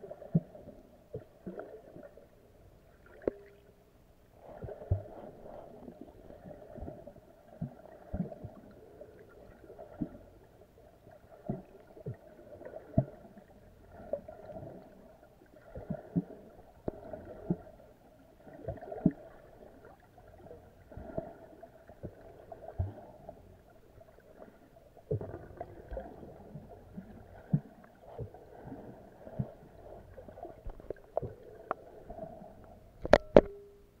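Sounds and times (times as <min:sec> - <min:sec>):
muffled underwater water wash: 0:00.0 - 0:34.0
soft underwater knocks and gurgles: 0:00.0 - 0:34.0.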